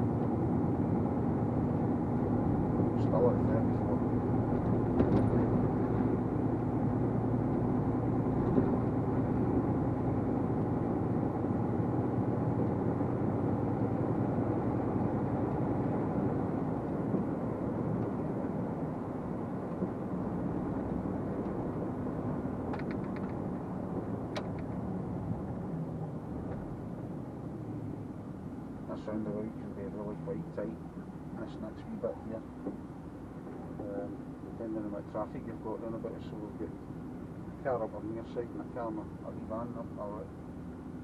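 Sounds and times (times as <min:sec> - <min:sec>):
road noise: 0:00.0 - 0:41.0.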